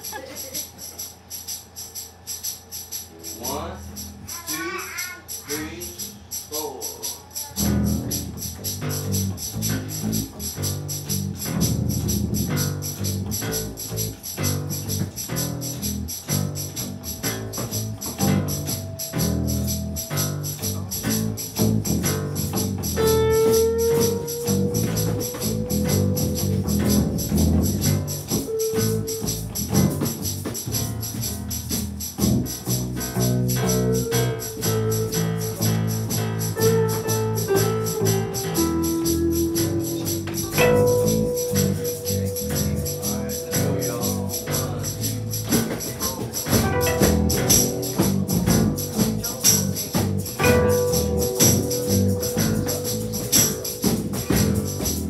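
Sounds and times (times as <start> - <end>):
jingling percussion beat: 0.0 - 55.0
small band playing a song: 1.9 - 55.0
bass line: 7.2 - 55.0.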